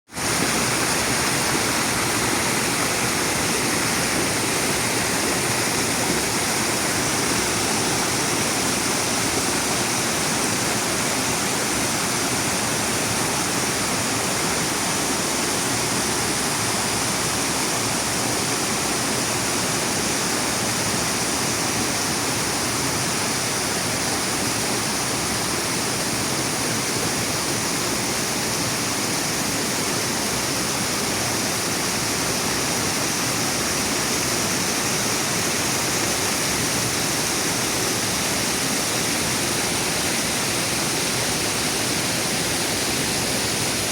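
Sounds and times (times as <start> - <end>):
waterfall roaring: 0.1 - 43.9.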